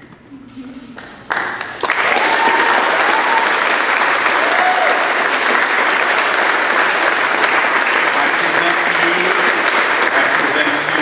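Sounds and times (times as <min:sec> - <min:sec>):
crowd applauding: 0:01.0 - 0:11.0
people cheering: 0:01.8 - 0:11.0.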